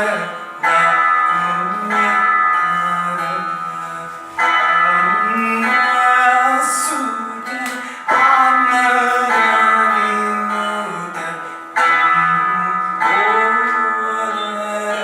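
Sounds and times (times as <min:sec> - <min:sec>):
veena plucked strings: 0:00.0 - 0:15.0.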